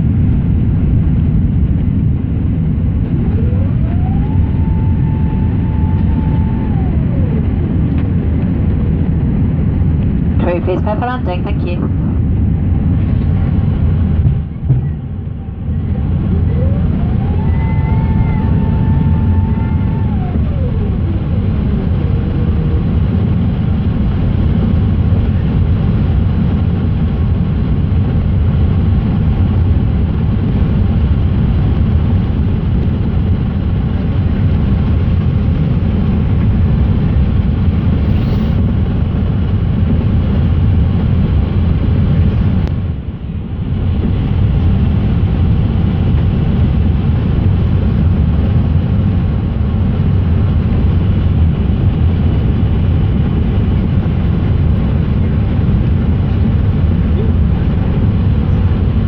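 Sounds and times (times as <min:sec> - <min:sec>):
airplane cabin rumble: 0:00.0 - 0:59.0
mechanical whine: 0:00.0 - 0:59.0.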